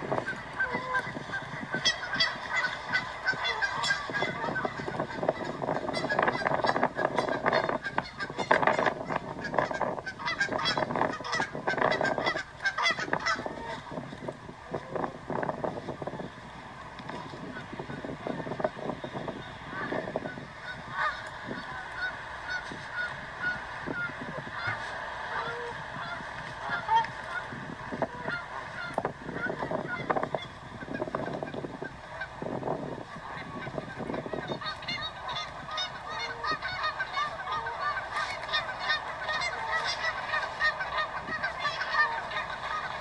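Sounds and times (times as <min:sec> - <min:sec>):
waterbirds calling: 0:00.0 - 0:43.0.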